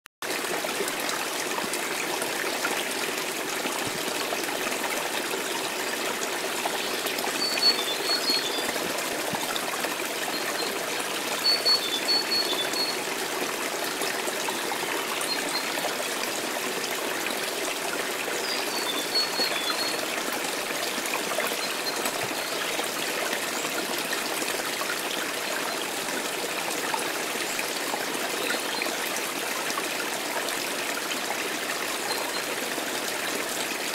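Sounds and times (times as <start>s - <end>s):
fountain splashing into water: 0.2s - 33.9s.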